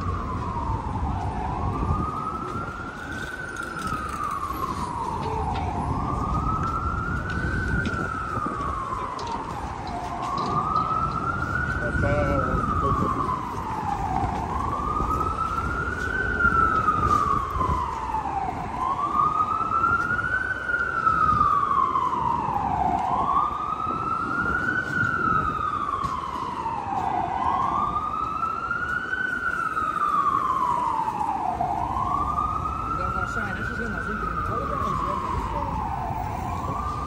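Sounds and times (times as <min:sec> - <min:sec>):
city street traffic rumble: 0:00.0 - 0:37.0
emergency vehicle siren wailing: 0:00.0 - 0:37.0.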